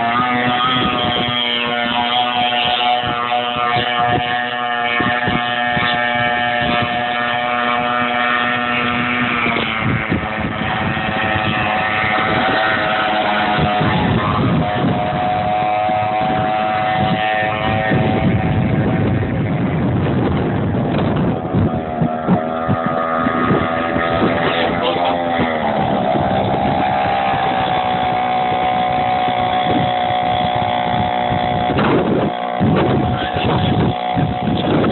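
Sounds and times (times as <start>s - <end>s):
two-stroke engine running: 0.0s - 34.9s.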